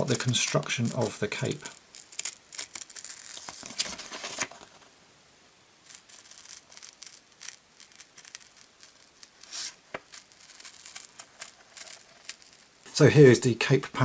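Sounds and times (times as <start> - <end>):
paper rustling: 0.0 - 4.9, 5.9 - 12.7.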